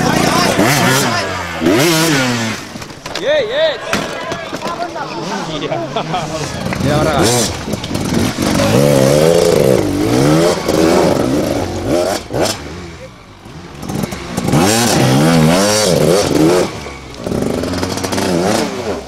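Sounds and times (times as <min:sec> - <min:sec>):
motorcycle engine revving: 0:00.0 - 0:03.0, 0:06.3 - 0:19.0.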